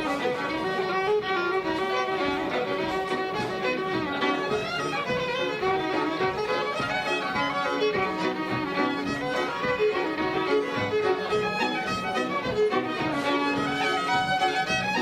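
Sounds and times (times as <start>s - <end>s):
fiddle melody: 0.0s - 15.0s
steady accompaniment: 0.0s - 15.0s.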